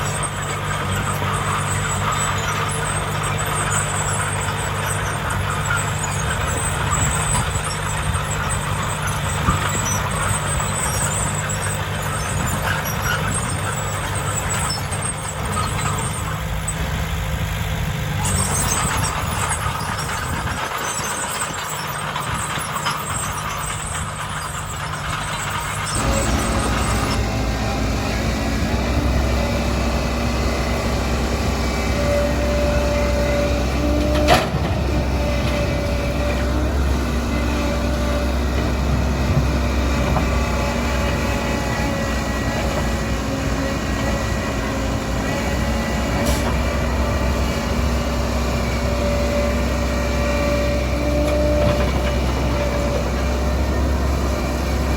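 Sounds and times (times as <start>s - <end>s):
heavy construction vehicle engine: 0.0s - 54.9s.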